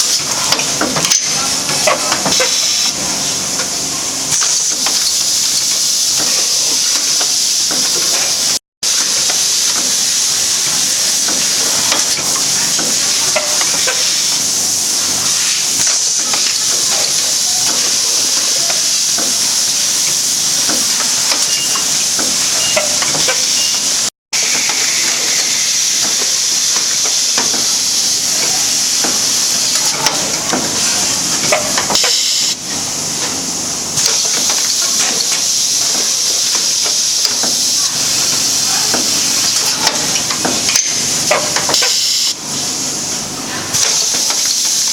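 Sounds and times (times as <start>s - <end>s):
packing machine hissing: 0.0s - 44.9s.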